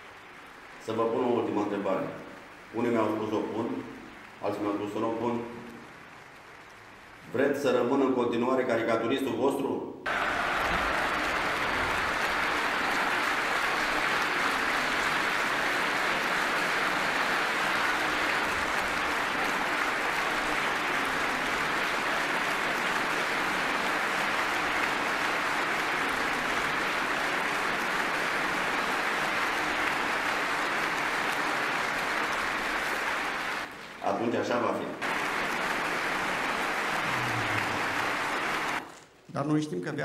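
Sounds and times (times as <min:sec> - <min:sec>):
audience applauding: 0:00.0 - 0:08.8, 0:10.1 - 0:39.0.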